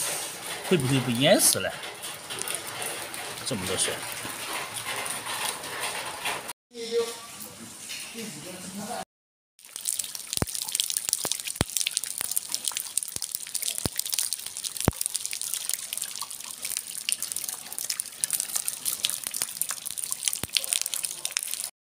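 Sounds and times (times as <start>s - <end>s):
heavy rain on water: 0.0s - 6.4s, 9.6s - 21.7s.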